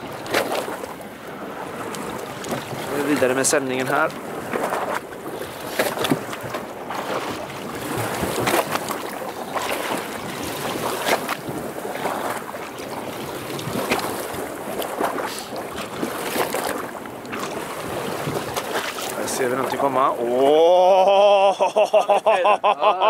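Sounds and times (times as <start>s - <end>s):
waves slapping boat hull: 0.0s - 23.0s.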